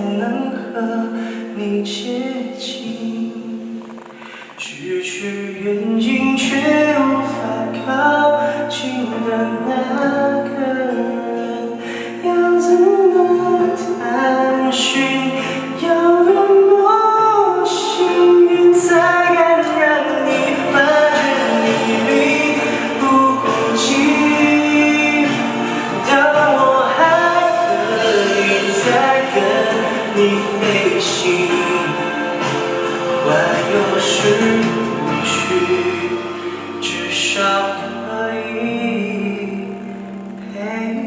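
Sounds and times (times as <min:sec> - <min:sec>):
voices singing together: 0:06.1 - 0:40.9.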